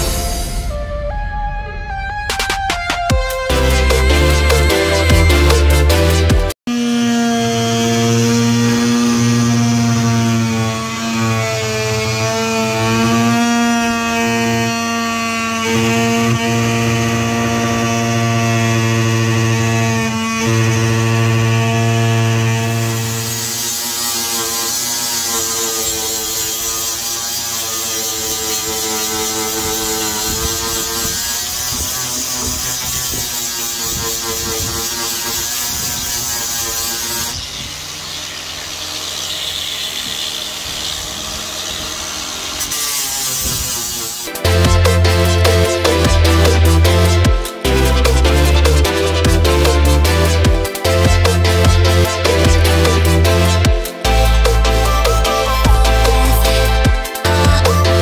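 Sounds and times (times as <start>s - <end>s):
power tool grinding: 2.3s - 58.0s
oscillating multi-tool buzzing: 3.5s - 58.0s.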